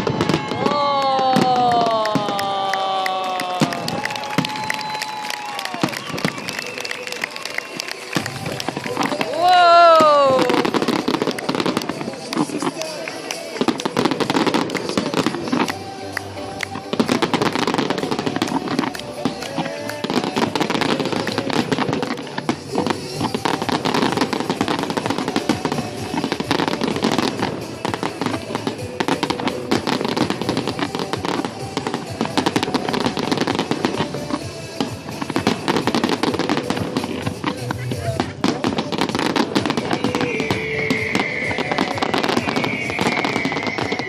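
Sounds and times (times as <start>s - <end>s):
fireworks crackling and banging: 0.0s - 44.0s
music playing: 0.0s - 44.0s.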